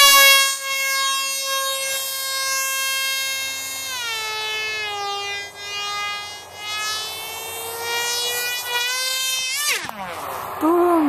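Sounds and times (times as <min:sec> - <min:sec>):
electric motor propeller whine: 0:00.0 - 0:11.0.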